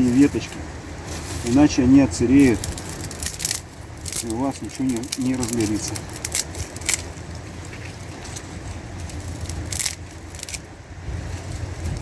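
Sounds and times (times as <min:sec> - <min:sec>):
dry twigs cracking and crunching: 0:00.0 - 0:12.0
low steady rumble: 0:00.0 - 0:12.0.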